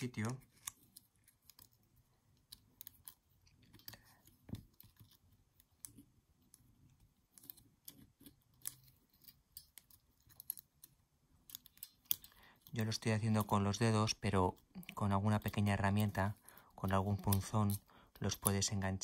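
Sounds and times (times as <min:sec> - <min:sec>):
small metal clicks and ticks: 0:00.0 - 0:18.8.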